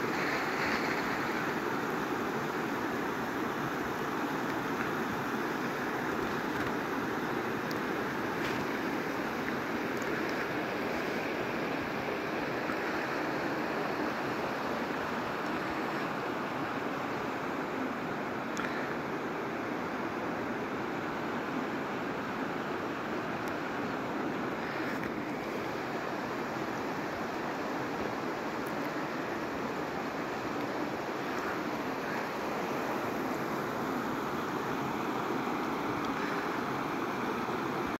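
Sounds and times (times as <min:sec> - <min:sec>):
river rushing over rocks: 0:00.0 - 0:38.0.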